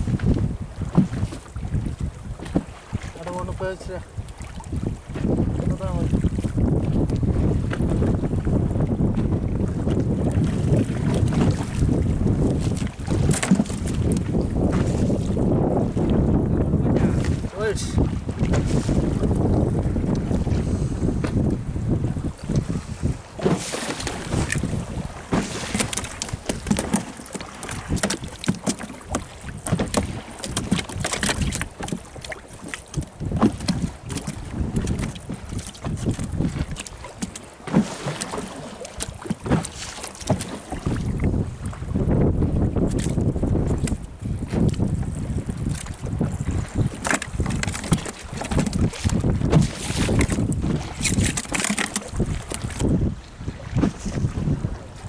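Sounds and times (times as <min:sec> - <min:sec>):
water lapping against boat hull: 0:00.0 - 0:55.0
wind buffeting microphone: 0:00.0 - 0:55.0.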